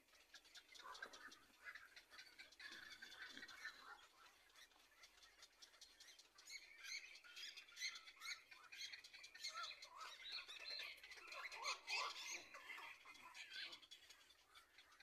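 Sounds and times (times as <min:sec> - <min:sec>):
bird chick squawking chirps: 0:00.0 - 0:15.0.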